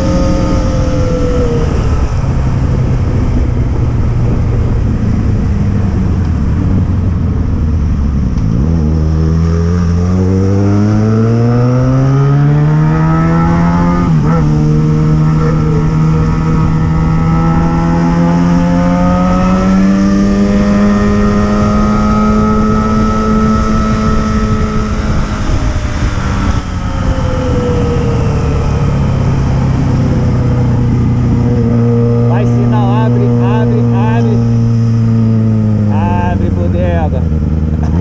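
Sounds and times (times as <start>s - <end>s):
motorcycle engine under load: 0.0s - 38.0s.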